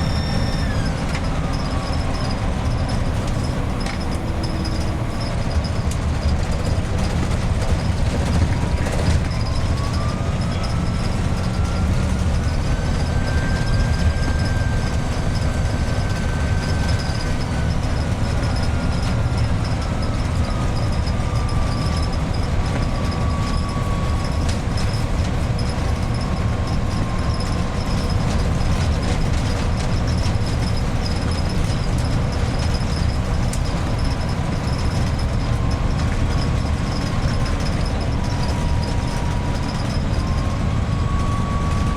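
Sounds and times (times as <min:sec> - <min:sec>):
diesel engine low rumble: 0:00.0 - 0:41.9
turbocharger whistling: 0:00.0 - 0:41.9.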